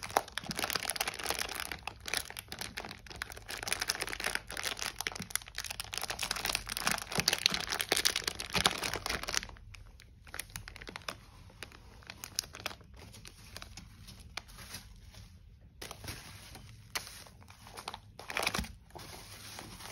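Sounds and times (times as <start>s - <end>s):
plastic bag crinkling: 0.0s - 19.9s.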